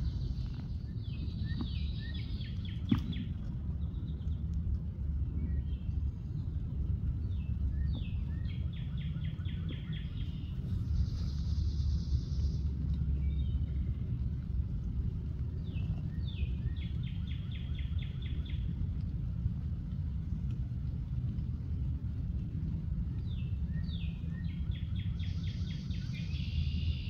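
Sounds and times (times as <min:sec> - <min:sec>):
songbird singing: 0:00.0 - 0:21.0, 0:21.6 - 0:27.0
low outdoor rumble: 0:00.0 - 0:27.0.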